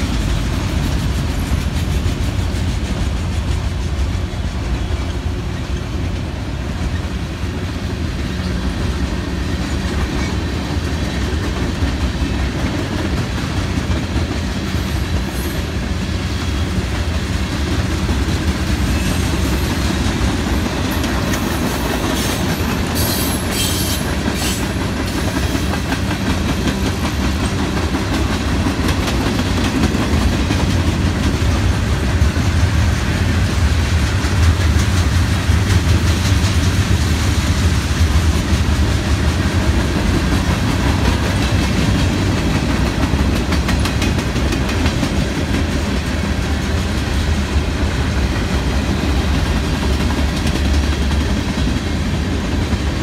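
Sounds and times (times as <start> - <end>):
train wheels clickety-clack: 0.0 - 53.0.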